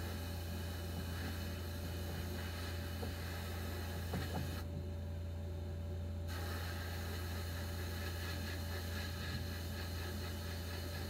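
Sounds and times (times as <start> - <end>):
sandblasting hiss: 0.0 - 4.6, 6.3 - 11.0
constant low hum: 0.0 - 11.0.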